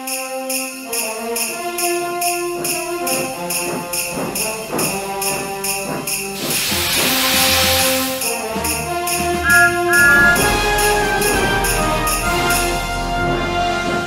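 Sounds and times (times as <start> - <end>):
sleigh bells shaken: 0.0 - 12.8
festive background music: 0.0 - 14.0.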